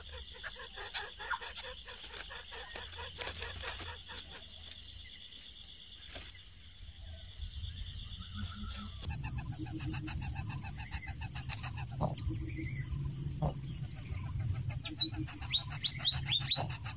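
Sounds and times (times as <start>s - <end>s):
insects chirping: 0.0s - 16.9s.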